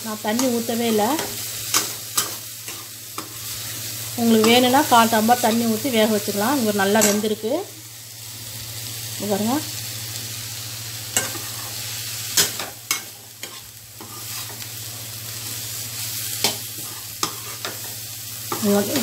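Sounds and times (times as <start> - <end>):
vegetables sizzling: 0.0 - 19.0.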